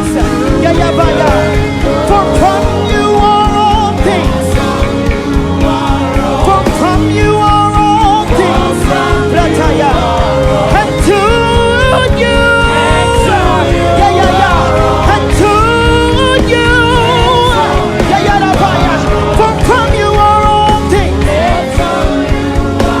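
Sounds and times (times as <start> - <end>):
gospel band playing: 0.0 - 23.0
person singing: 0.0 - 23.0.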